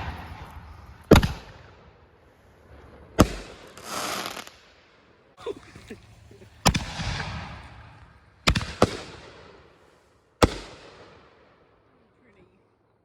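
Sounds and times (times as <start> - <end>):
fireworks bangs: 0.0 - 11.6.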